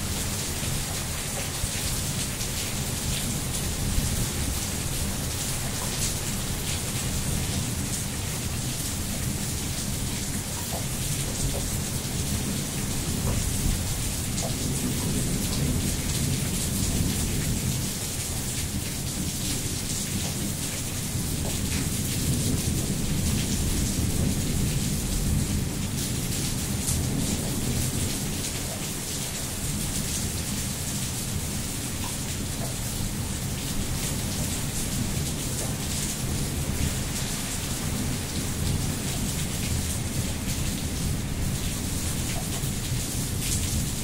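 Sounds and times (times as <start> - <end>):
rain on wet paving: 0.0 - 44.0.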